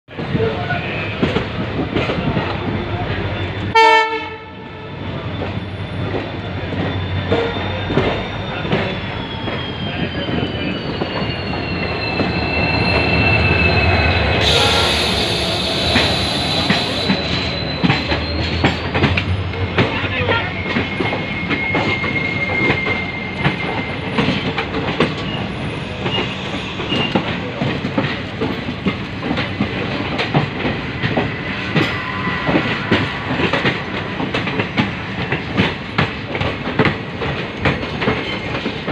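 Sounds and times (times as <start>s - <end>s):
second train passing: 0.1s - 38.9s
train wheel squeals: 0.4s - 38.9s
train wheels clattering: 5.1s - 38.9s.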